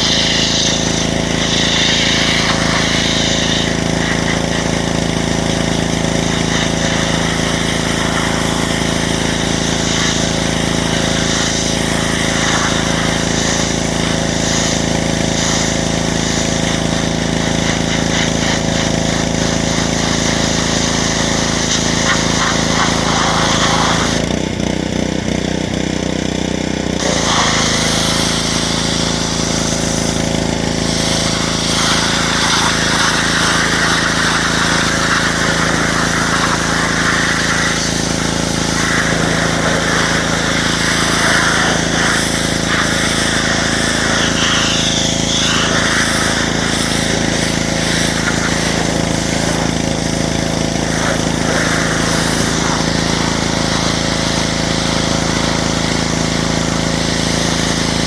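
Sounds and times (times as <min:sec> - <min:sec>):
pressure washer spray hissing: 0:00.0 - 0:24.3, 0:27.0 - 0:58.0
pressure washer motor humming: 0:00.0 - 0:58.0.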